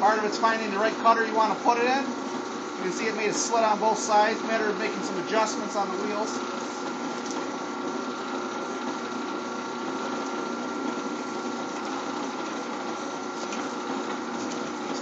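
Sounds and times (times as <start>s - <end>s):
wire stripping machine running: 0.0s - 15.0s.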